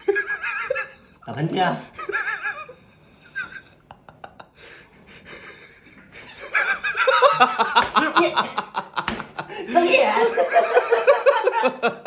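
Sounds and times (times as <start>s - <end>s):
people laughing: 1.9s - 12.0s.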